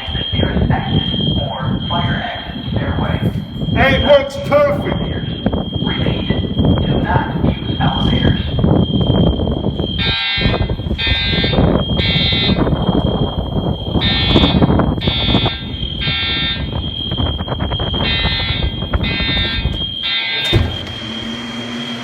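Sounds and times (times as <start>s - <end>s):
fire alarm horn blasts: 0.0s - 22.0s.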